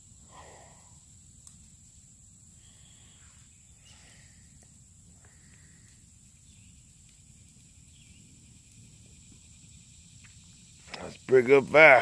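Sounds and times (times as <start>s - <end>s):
faint chirps and clicks: 0.8s - 11.4s.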